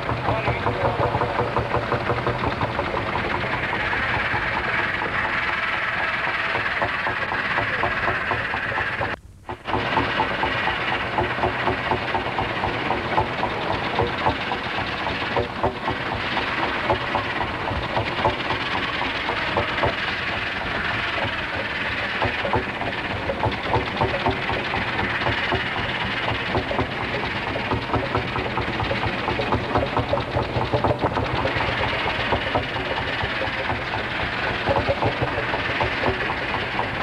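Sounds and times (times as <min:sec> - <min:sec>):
tractor engine chuffing: 0:00.0 - 0:37.0.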